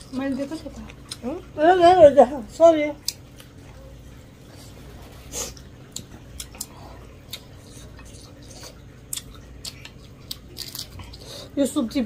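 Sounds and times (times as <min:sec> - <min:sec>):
chewing: 0:00.0 - 0:01.6, 0:03.0 - 0:11.6.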